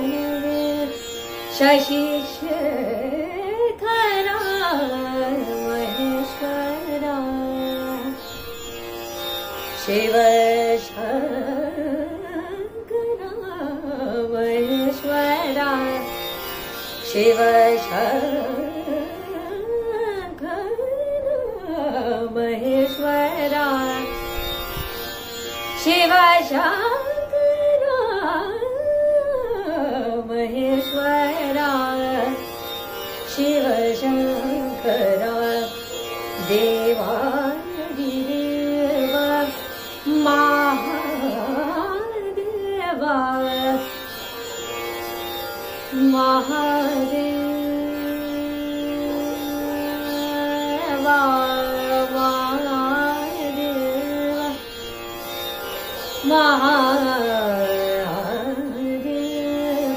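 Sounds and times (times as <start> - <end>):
woman singing classical vocal: 0.0 - 59.9.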